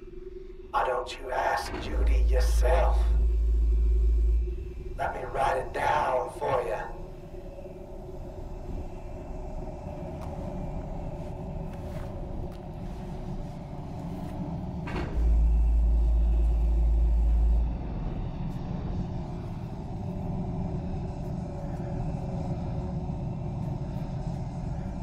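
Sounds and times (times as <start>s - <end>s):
low rumbling drone: 0.0s - 25.0s
deep bass rumble: 1.3s - 25.0s.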